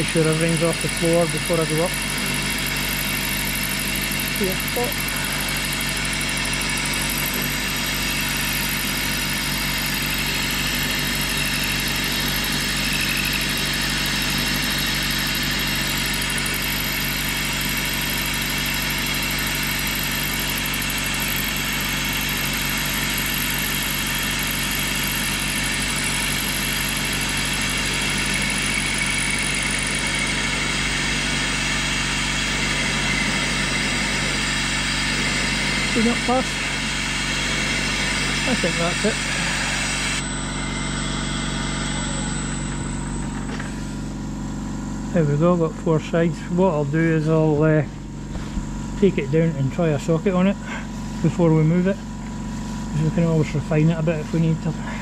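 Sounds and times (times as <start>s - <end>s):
milling machine running: 0.0s - 55.0s.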